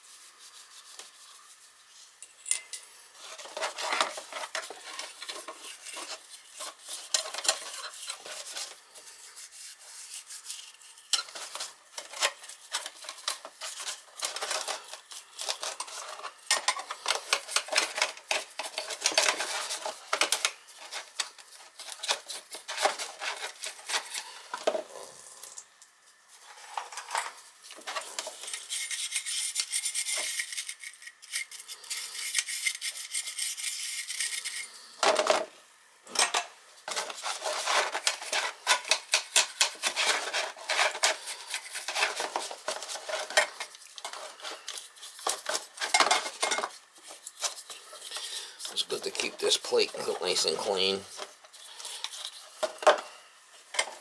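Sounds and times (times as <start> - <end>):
metal parts being scrubbed: 0.0 - 24.8, 26.3 - 35.4, 36.2 - 53.1.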